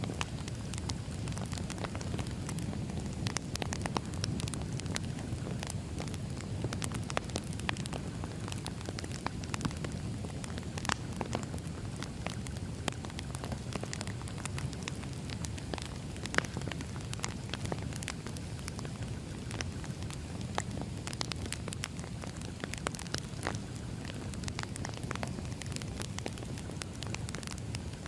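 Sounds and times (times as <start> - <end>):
firewood crackling and popping: 0.0 - 28.0
low rumble of flames: 0.0 - 28.0.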